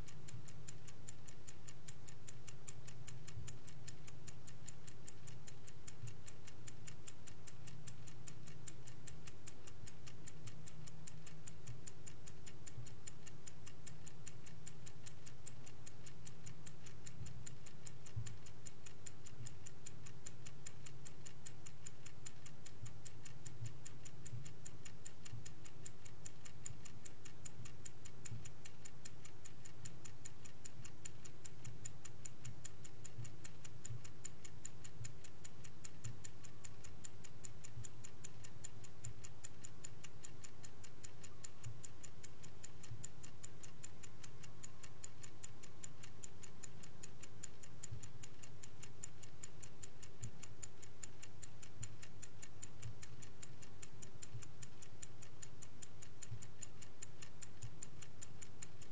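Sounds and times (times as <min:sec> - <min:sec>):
mechanical clock ticking: 0:00.0 - 0:58.9.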